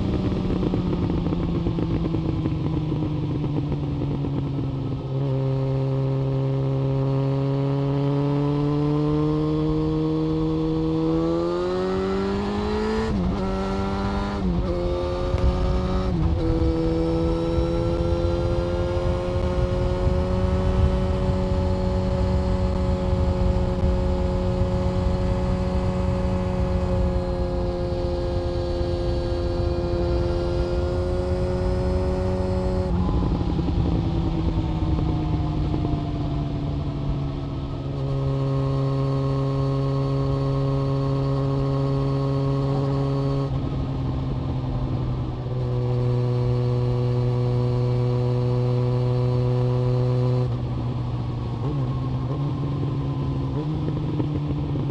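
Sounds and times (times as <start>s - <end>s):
motorcycle engine and exhaust: 0.0s - 54.9s.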